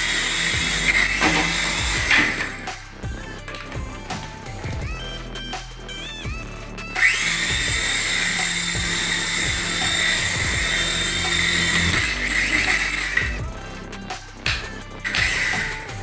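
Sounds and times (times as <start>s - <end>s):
toy helicopter motor whining: 0.0s - 16.0s.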